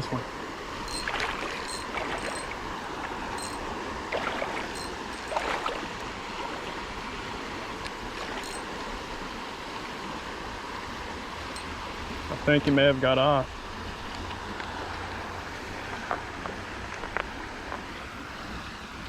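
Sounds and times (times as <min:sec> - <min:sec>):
creek water running over rocks: 0:00.0 - 0:19.0.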